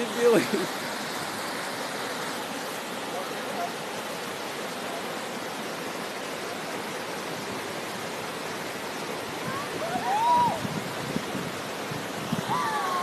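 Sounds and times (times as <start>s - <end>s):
rushing white water: 0.0s - 13.0s.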